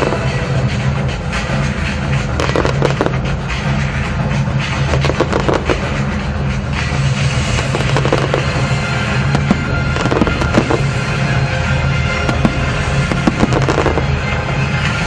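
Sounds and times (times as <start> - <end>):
fireworks bangs and crackling: 0.0 - 15.0
music playing: 0.0 - 15.0.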